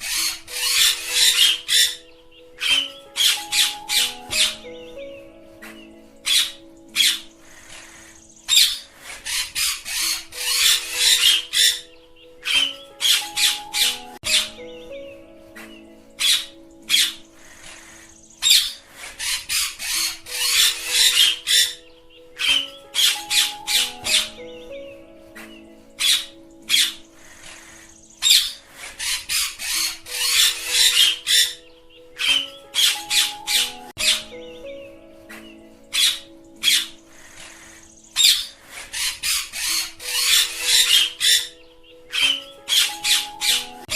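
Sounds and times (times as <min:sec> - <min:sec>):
parrots squawking: 0:00.0 - 0:04.5, 0:07.8 - 0:14.5, 0:16.2 - 0:24.4, 0:25.5 - 0:31.6, 0:32.2 - 0:34.3, 0:35.9 - 0:43.9
background music: 0:00.0 - 0:43.9.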